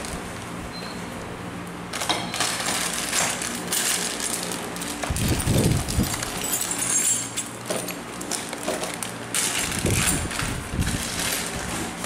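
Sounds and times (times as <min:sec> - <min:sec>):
handling clicks and rustles: 0:01.9 - 0:12.0.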